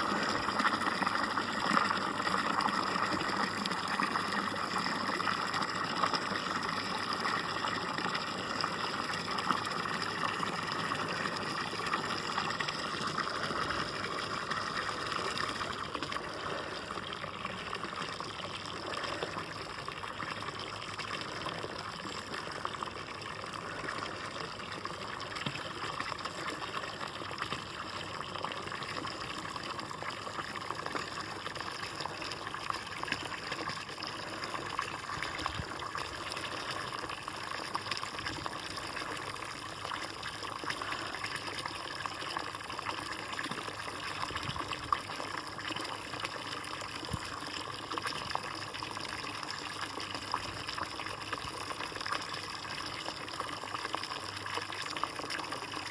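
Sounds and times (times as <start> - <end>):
water trickling into bird bath: 0.0 - 55.9.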